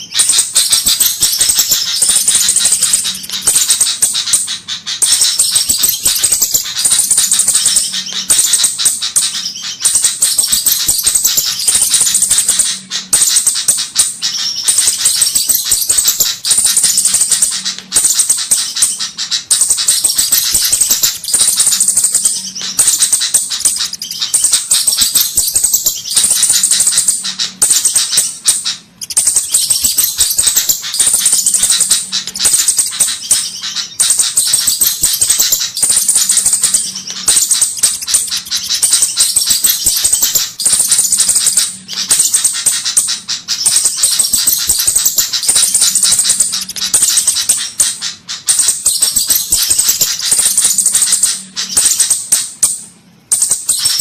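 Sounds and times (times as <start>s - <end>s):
high-pitched bird chip calls: 0.0s - 54.0s.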